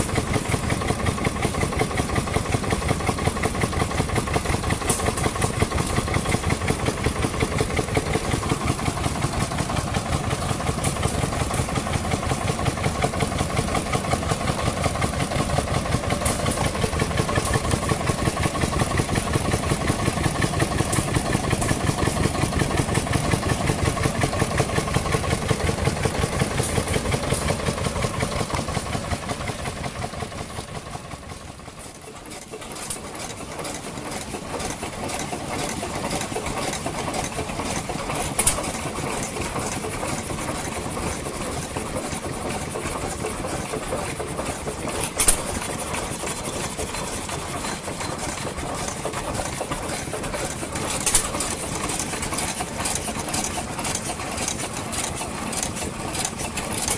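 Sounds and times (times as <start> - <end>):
quiet engine running steadily: 0.0 - 56.9.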